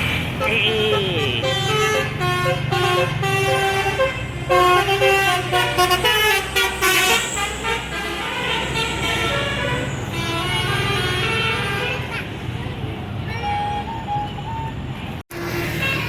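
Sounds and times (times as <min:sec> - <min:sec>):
bus engine hum: 0:00.0 - 0:16.0
musical bus horn tune: 0:00.2 - 0:12.2, 0:13.3 - 0:16.0.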